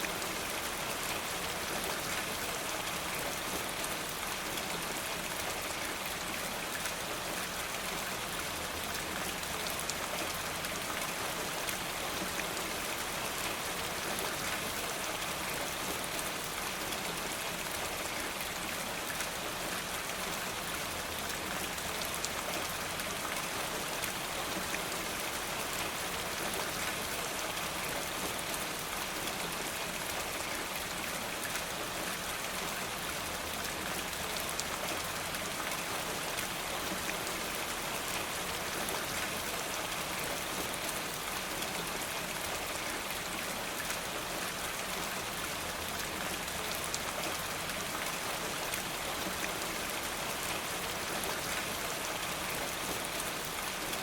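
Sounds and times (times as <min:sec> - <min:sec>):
steady rain with drop taps: 0:00.0 - 0:54.0.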